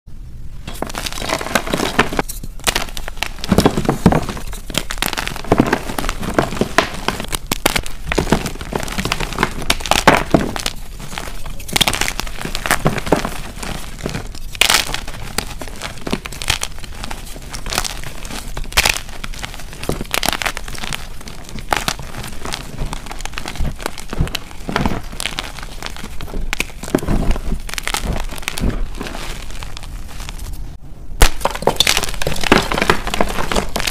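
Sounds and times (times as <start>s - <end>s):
hands crushing chalk blocks: 0.6s - 30.6s, 31.2s - 33.9s.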